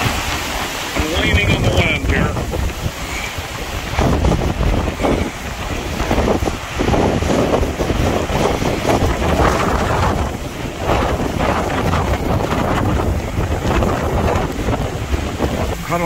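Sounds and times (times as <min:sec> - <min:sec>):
wind buffeting microphone: 0:00.0 - 0:16.0
wind roaring and gusting: 0:00.0 - 0:16.0.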